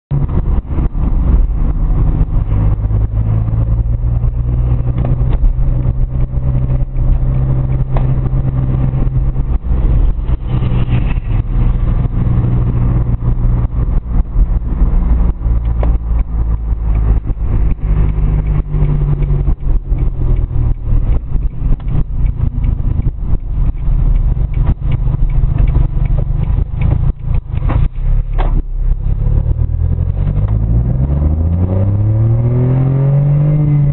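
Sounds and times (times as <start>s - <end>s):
car engine droning: 0.1s - 33.9s.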